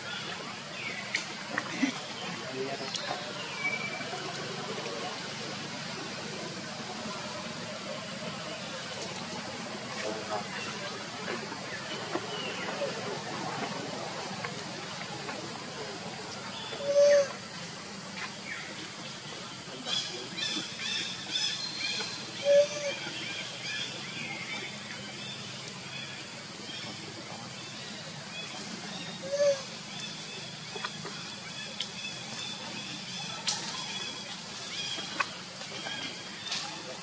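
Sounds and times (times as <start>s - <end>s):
steady high hiss: 0.0s - 37.0s.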